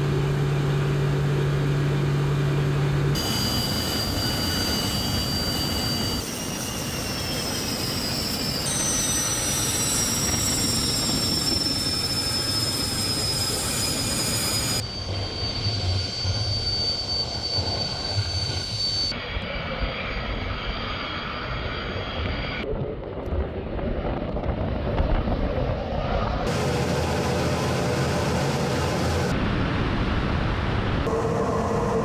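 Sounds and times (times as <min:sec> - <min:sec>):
fighter jet engine roar: 0:00.0 - 0:22.7, 0:23.5 - 0:32.0.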